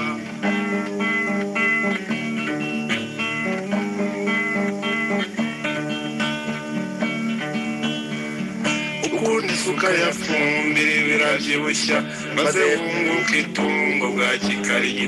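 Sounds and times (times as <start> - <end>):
guitar plucking notes: 0.0 - 15.0
sustained accompaniment: 0.0 - 15.0.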